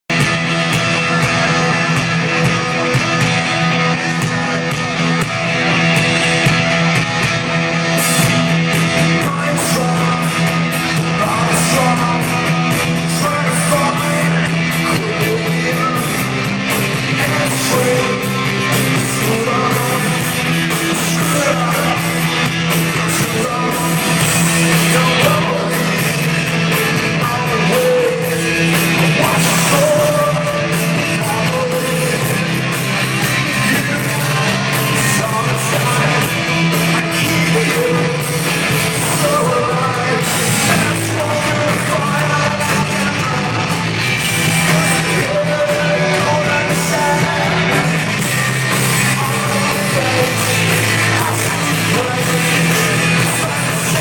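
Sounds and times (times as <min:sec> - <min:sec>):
rock band playing live: 0:00.0 - 0:54.0
person singing: 0:07.4 - 0:54.0.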